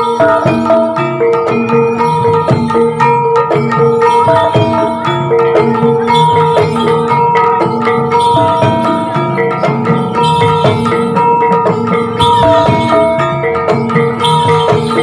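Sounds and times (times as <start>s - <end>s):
drum strokes: 0.0s - 15.0s
metallophones ringing patterns: 0.0s - 15.0s.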